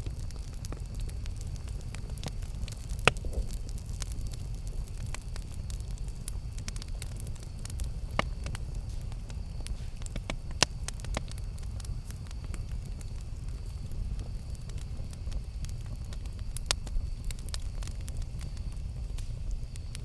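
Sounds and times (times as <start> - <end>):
wood campfire crackling: 0.0 - 20.0.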